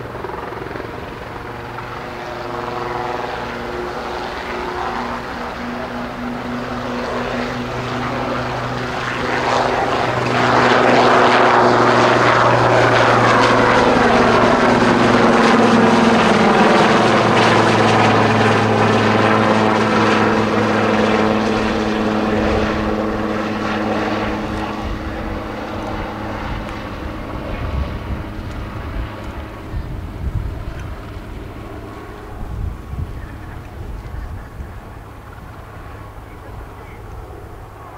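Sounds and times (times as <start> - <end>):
helicopter passing by: 0.0 - 37.9.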